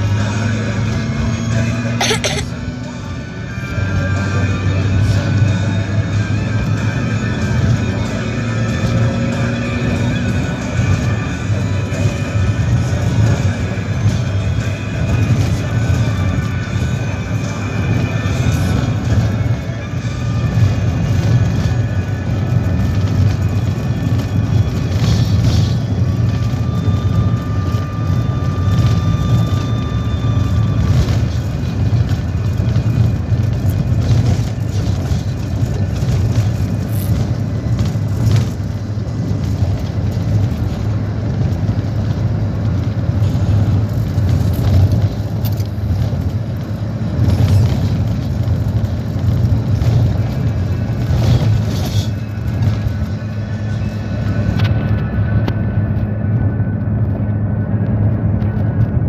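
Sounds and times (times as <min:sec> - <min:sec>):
music playing: 0:00.0 - 0:57.6
car rumbling: 0:00.0 - 0:59.0.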